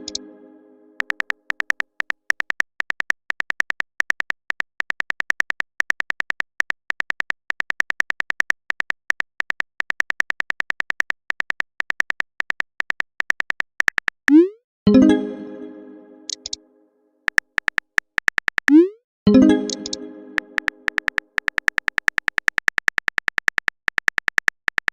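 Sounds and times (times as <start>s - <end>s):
synthetic keyboard typing clicks: 0.0s - 15.1s, 16.3s - 16.6s, 17.3s - 24.9s.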